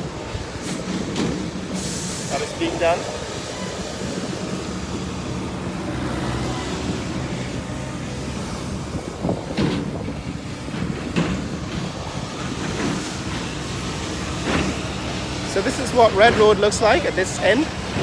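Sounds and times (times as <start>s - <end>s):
vehicles passing: 0.0s - 18.0s.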